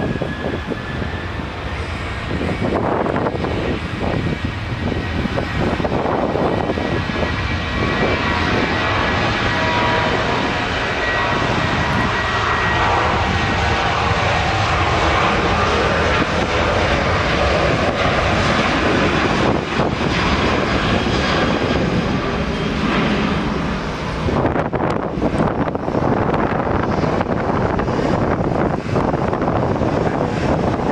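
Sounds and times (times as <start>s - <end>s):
high jet whine: 0.0s - 30.9s
jet engines roaring: 0.0s - 30.9s.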